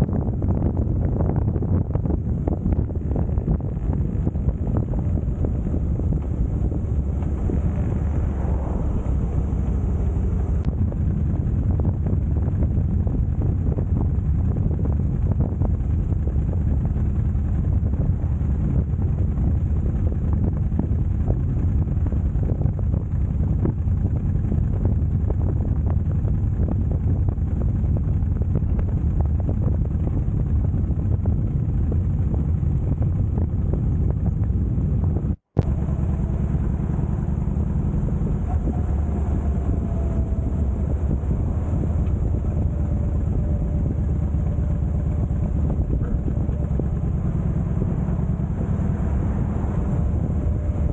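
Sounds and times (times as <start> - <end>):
motorcycle engine rumbling: 0.0 - 50.9
wind buffeting on microphone: 0.0 - 50.9.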